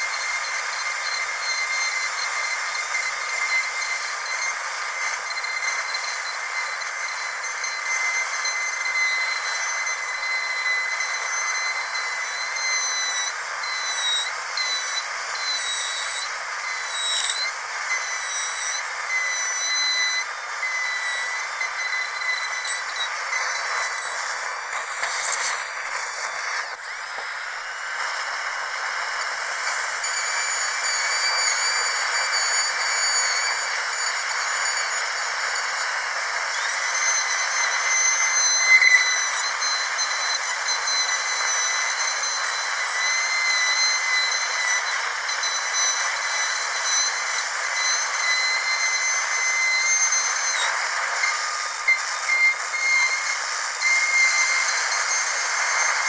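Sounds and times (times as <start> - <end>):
dental drill whining: 0.0 - 56.0.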